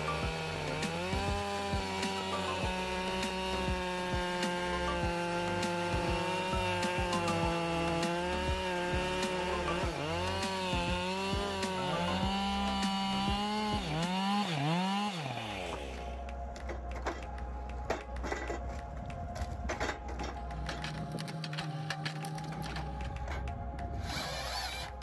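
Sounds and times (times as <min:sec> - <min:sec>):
chainsaw cutting wood: 0:00.0 - 0:18.6, 0:19.7 - 0:25.0.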